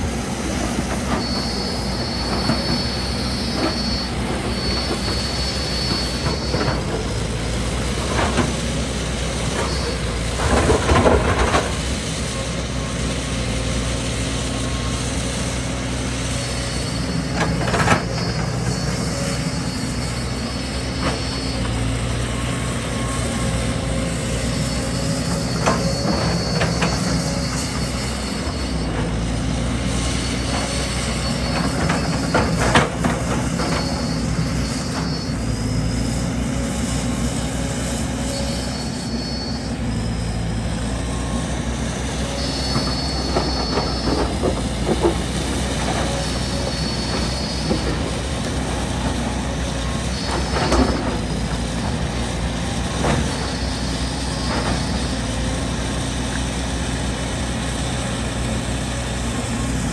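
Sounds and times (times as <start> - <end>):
excavator diesel engine running: 0.0 - 59.9
high squeals: 0.2 - 59.8.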